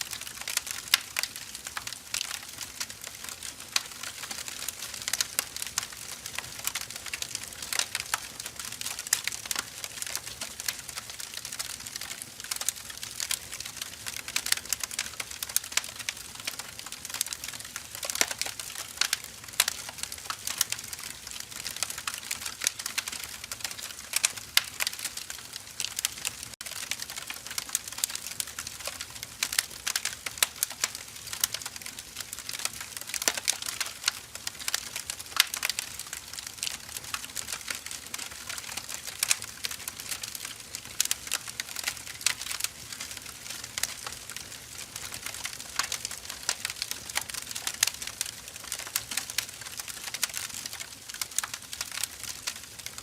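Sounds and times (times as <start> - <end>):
firewood crackling and popping: 0.0 - 53.0.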